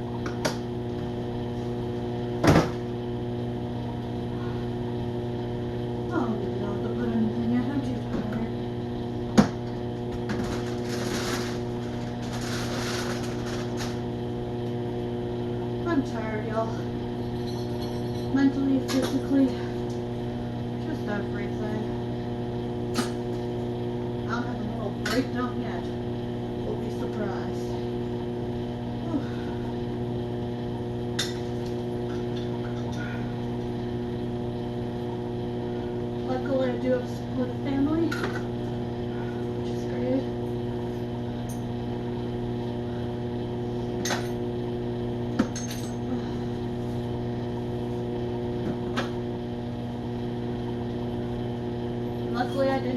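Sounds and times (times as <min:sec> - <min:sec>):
steady electrical hum: 0:00.0 - 0:52.9.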